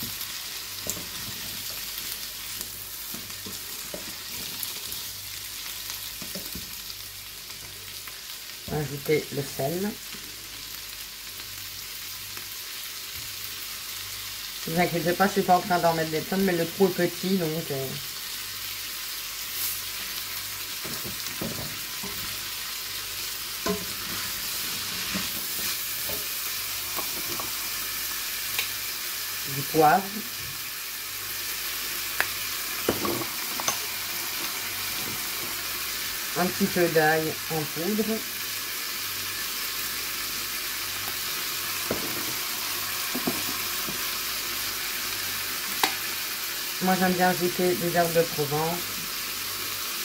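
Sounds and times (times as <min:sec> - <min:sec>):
potatoes and onions sizzling: 0:00.0 - 0:50.0.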